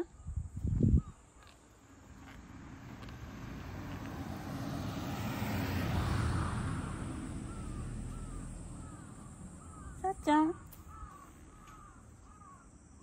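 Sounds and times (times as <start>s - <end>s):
aircraft passing overhead: 1.8s - 12.6s.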